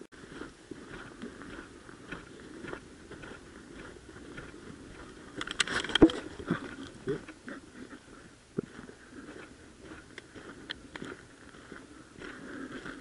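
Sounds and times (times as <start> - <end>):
footsteps crunching on gravel: 0.1 - 13.0.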